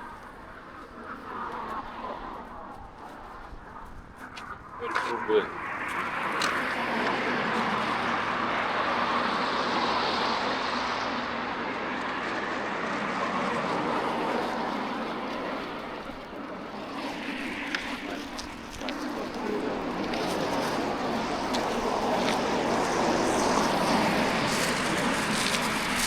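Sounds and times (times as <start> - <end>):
passing vehicle rushing: 4.8 - 26.0.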